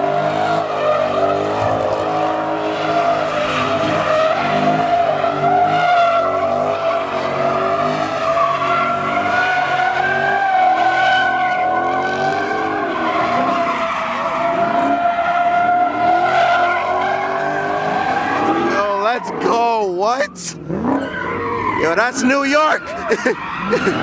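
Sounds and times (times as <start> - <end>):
car engine revving: 0.0 - 24.0
tyres squealing: 1.0 - 24.0.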